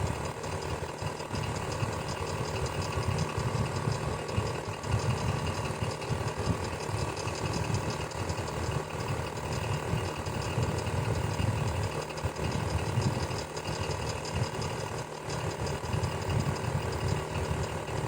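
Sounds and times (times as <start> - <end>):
electric fan running: 0.0 - 18.0
fan mechanical rattle: 0.0 - 18.0.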